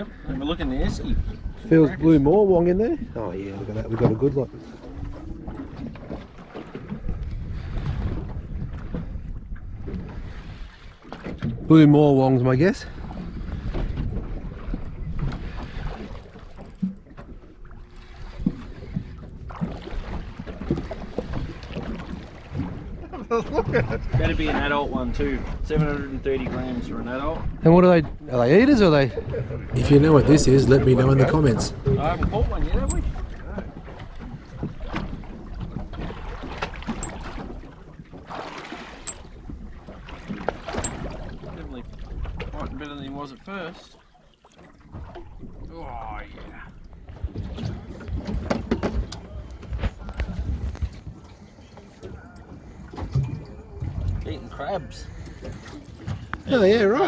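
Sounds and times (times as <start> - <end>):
wind rumbling on microphone: 0.0 - 43.2, 44.9 - 56.5
water lapping against boat hull: 0.0 - 57.0.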